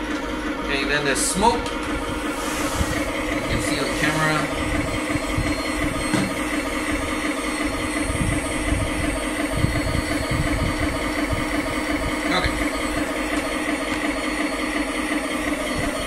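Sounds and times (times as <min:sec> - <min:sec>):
simulated tank engine idling: 0:00.0 - 0:16.0.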